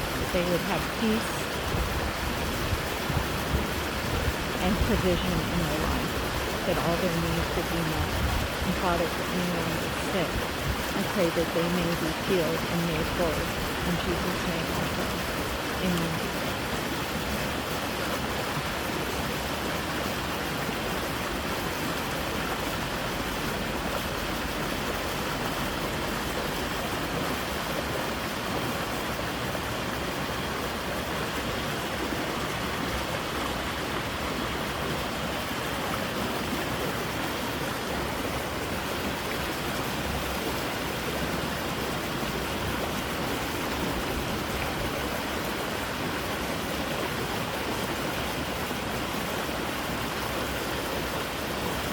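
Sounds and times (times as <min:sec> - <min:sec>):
water rushing through creek: 0:00.0 - 0:51.9.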